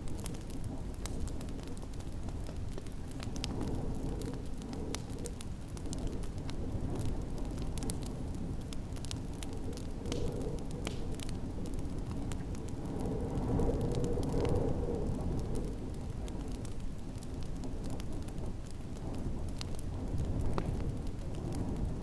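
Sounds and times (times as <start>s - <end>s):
snowstorm wind rushing: 0.0s - 22.0s
wood fire crackling: 0.0s - 22.0s.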